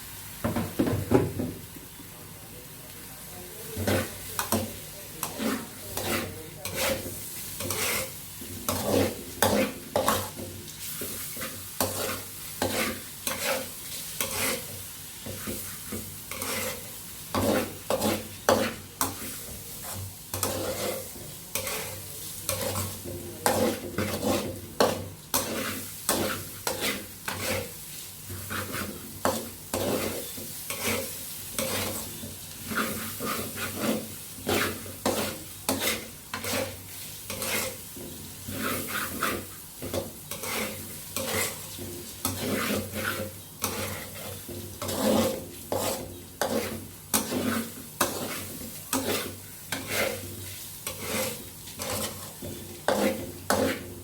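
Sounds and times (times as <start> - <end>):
food sizzling: 0.0 - 54.0
utensil scraping cooking pot: 3.7 - 54.0.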